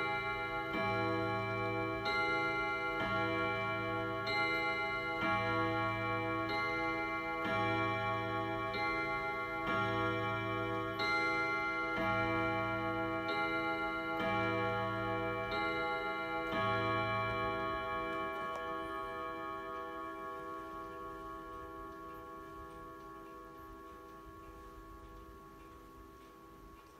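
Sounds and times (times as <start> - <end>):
clock hammers striking gong rods: 0.0 - 26.8
clock ticking: 0.0 - 26.9.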